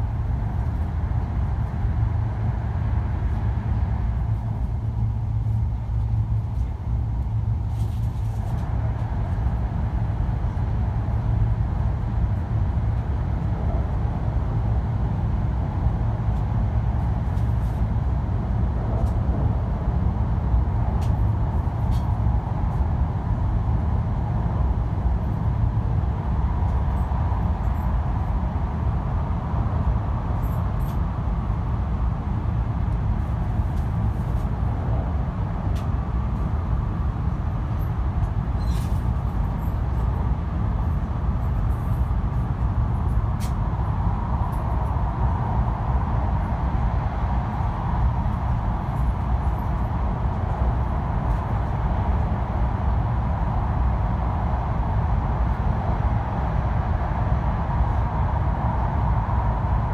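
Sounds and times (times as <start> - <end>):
train cabin rumble with rushing: 0.0 - 59.9.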